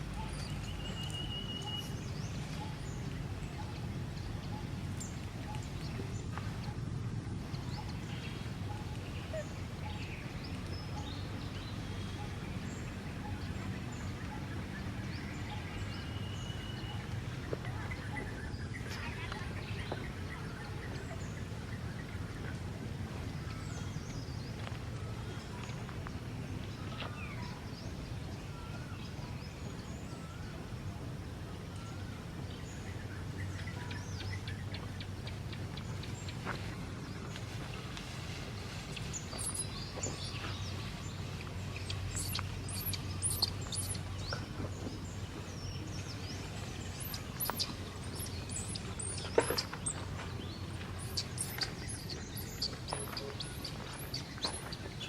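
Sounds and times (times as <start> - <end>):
birds chirping: 0.0 - 55.0
steady low rumble: 1.9 - 55.0.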